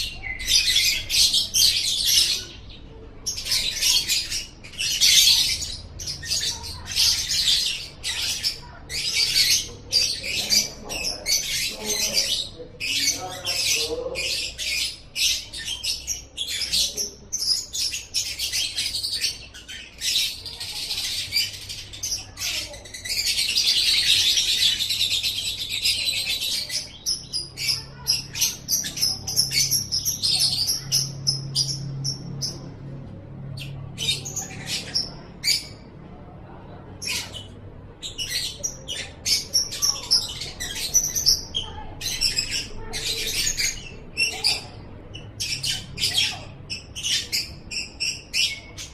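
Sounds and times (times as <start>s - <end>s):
lovebird chirping and trilling: 0.0s - 32.7s, 33.6s - 35.9s, 37.0s - 48.9s.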